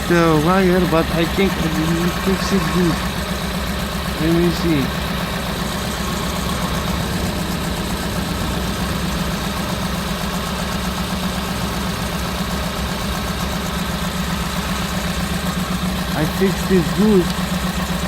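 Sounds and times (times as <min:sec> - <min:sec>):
engine idling rough: 0:00.0 - 0:18.0.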